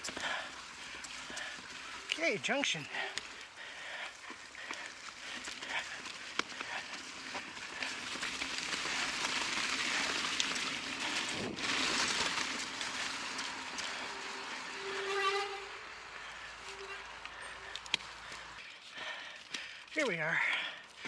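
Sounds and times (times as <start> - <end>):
bike tyres crunching on gravel: 0.0 - 21.0.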